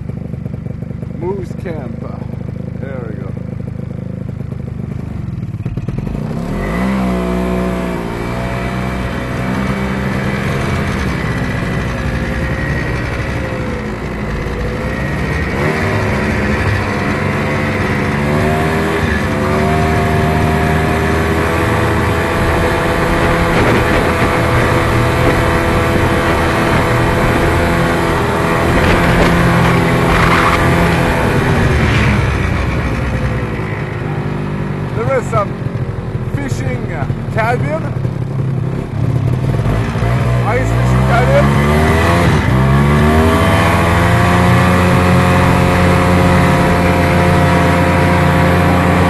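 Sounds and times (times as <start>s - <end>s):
snowmobile engine: 0.0s - 49.0s.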